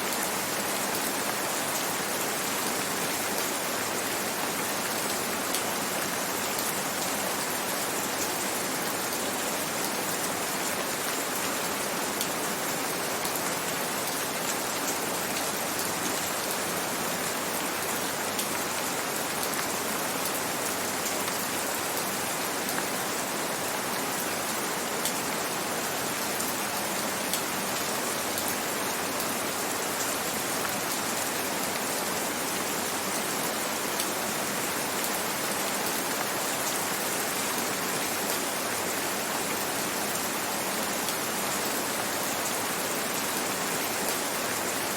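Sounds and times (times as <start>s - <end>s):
gentle rain falling: 0.0s - 44.9s.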